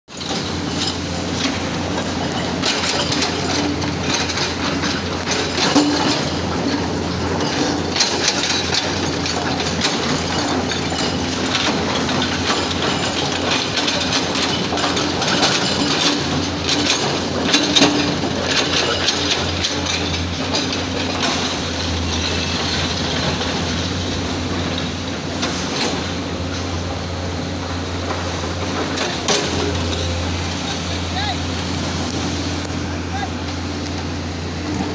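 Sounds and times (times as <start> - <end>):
diesel engine running: 0.1 - 34.9
hydraulic rock breaker hammering: 0.2 - 34.9.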